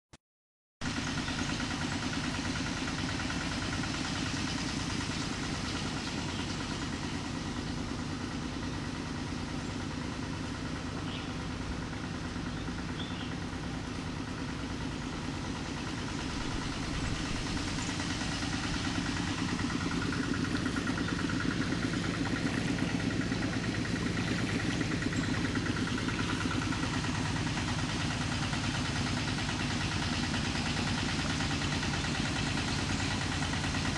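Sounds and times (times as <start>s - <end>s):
engine running with low pulse: 0.8s - 33.9s.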